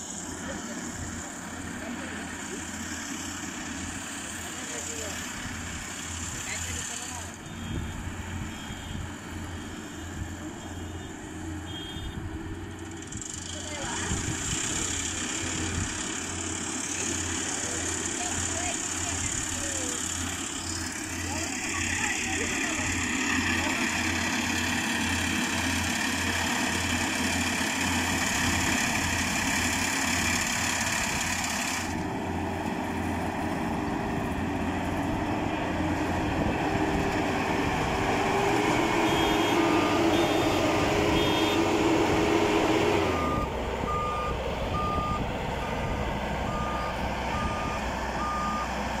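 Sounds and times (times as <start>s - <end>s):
combine harvester engine running: 0.0s - 49.0s.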